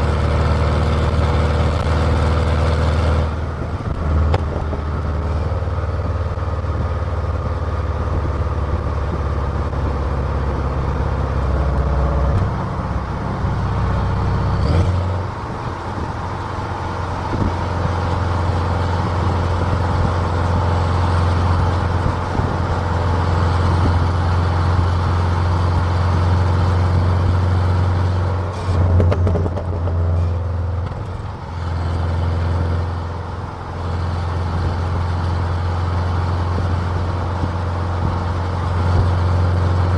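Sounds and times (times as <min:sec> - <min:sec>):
car exhaust engine drone: 0:00.0 - 0:39.9.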